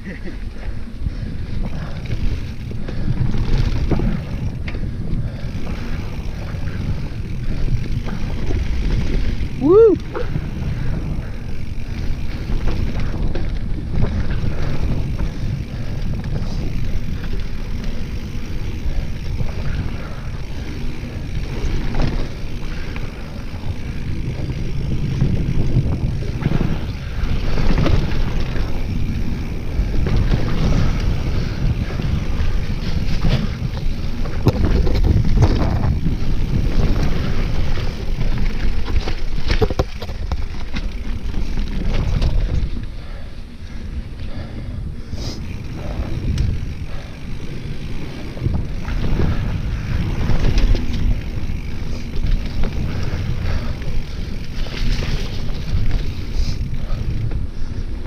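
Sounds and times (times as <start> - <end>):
tyres rumbling on dirt: 0.0 - 43.2, 44.3 - 58.0
bike knocking and rattling: 0.0 - 58.0
wind buffeting microphone: 0.6 - 58.0.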